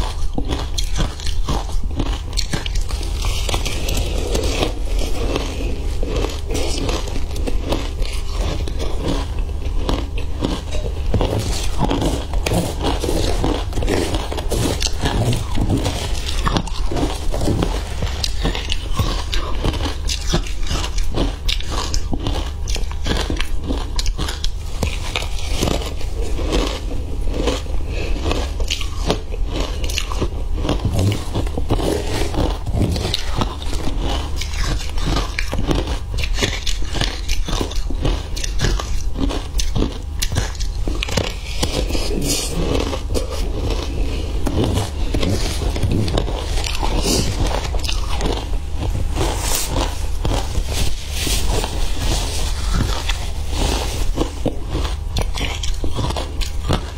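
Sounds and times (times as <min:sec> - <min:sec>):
crunching and chewing ice: 0:00.0 - 0:56.9.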